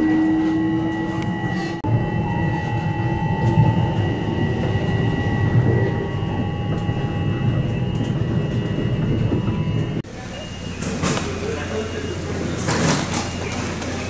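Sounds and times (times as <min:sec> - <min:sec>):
constant high whine: 0:00.0 - 0:14.0
rumble of wheels on track: 0:00.0 - 0:14.0.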